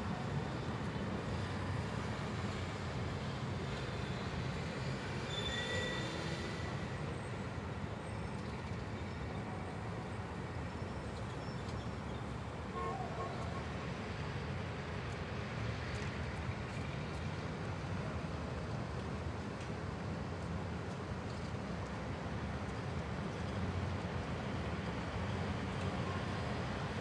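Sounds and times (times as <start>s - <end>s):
rumble of passing vehicles: 0.0s - 27.0s.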